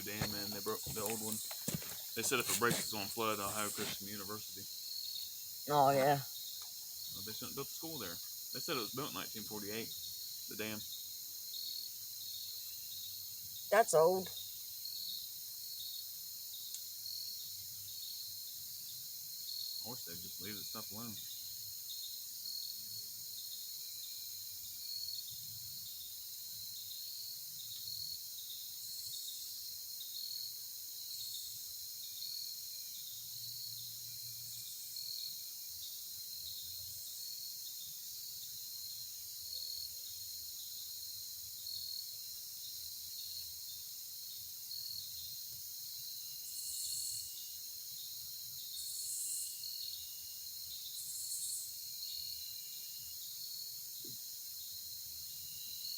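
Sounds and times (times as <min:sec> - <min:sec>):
crickets and insects trilling: 0:00.0 - 0:55.9.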